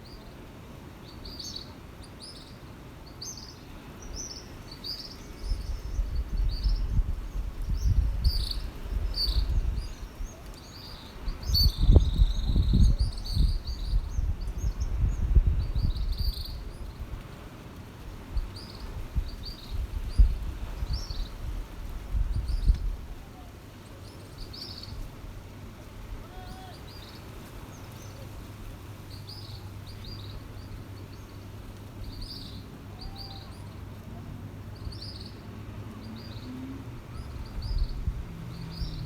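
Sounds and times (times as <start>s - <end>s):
small birds chirping: 1.0s - 17.4s, 18.1s - 25.1s, 25.8s - 39.0s.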